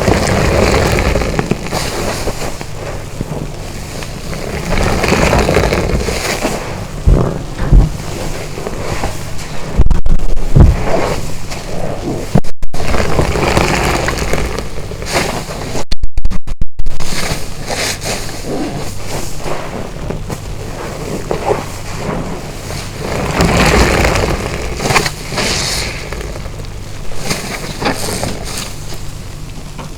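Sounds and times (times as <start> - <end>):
sponge squelching and sloshing water: 0.0 - 9.8, 10.5 - 15.8, 17.1 - 29.1.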